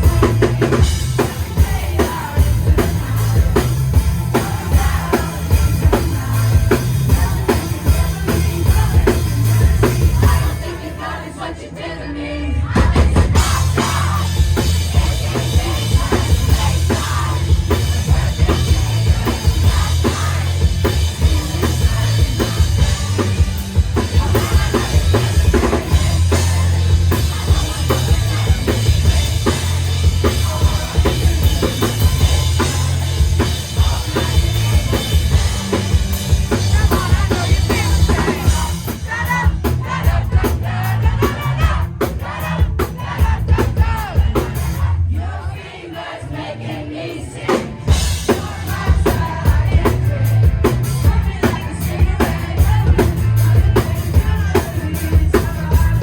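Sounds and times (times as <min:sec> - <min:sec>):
drum kit: 0:00.0 - 0:11.2, 0:12.7 - 0:56.0
live rock band playing: 0:00.0 - 0:11.2, 0:12.6 - 0:45.0, 0:47.0 - 0:56.0
heavy bass: 0:00.0 - 0:56.0.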